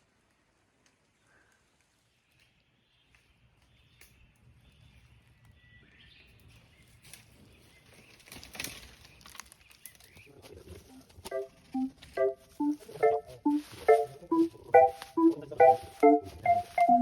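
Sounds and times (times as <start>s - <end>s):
rustles: 0.2s - 17.0s.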